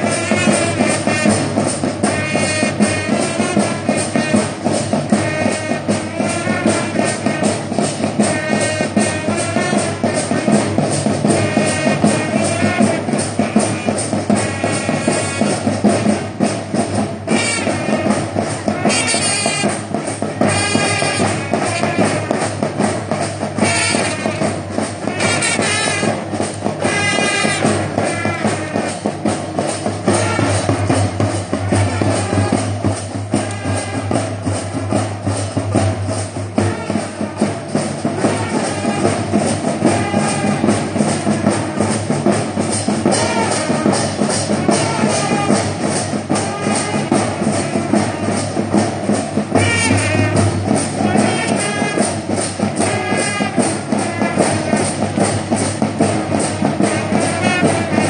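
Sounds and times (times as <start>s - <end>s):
drums keeping a beat: 0.0s - 58.0s
marching band playing: 0.0s - 58.0s.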